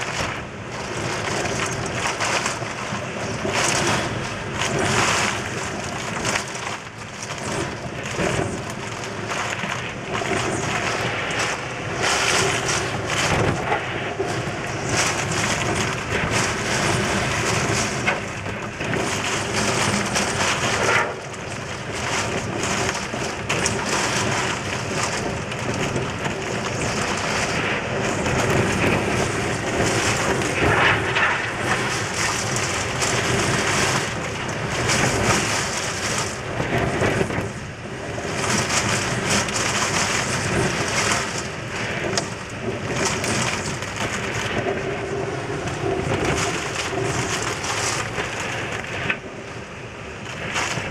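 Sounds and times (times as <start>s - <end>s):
heavy rain: 0.0s - 50.9s
strong wind: 0.0s - 50.9s
wind buffeting microphone: 0.0s - 50.9s.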